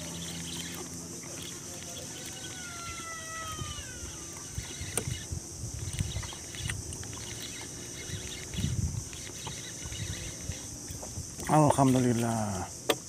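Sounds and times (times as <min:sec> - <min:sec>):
fishing reel ticking: 0:00.0 - 0:10.7.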